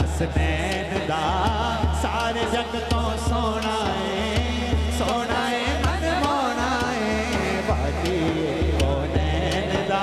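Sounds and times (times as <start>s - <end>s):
low hand drum beat: 0.0s - 10.0s
man singing into a microphone: 0.0s - 10.0s.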